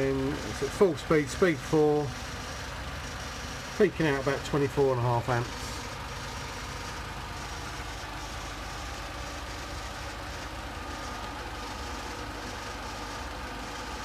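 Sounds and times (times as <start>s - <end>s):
car idling with heater blower: 0.0s - 14.0s.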